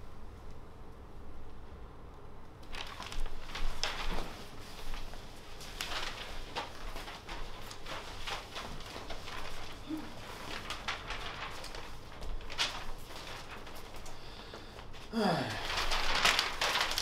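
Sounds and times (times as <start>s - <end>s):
cloth and paper rustling: 2.6s - 17.0s.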